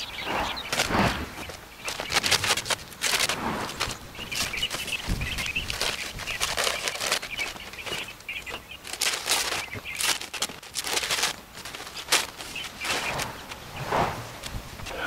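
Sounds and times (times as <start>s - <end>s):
birds chirping: 0.0s - 15.0s
tape and paper ripping: 0.7s - 13.3s.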